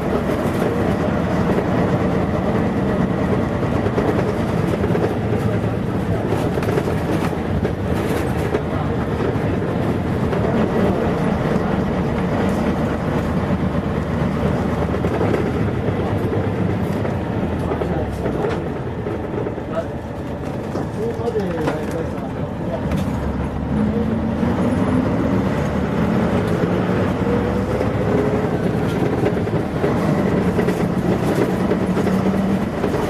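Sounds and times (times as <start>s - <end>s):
diesel bus engine droning: 0.0s - 33.0s
road and body rumble: 0.0s - 33.0s.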